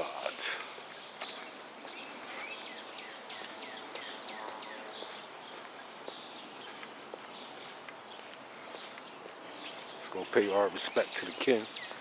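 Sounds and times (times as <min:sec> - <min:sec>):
birds chirping: 0:00.0 - 0:12.0
soft outdoor hiss: 0:00.0 - 0:12.0.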